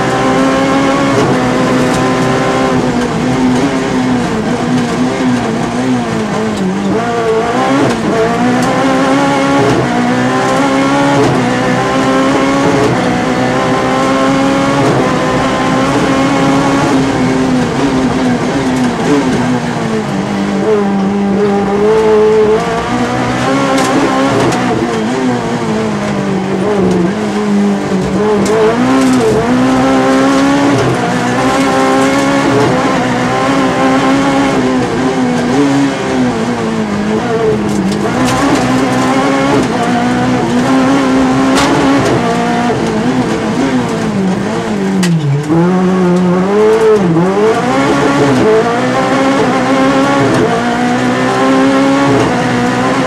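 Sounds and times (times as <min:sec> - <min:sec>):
car engine revving and shifting: 0:00.0 - 0:53.0.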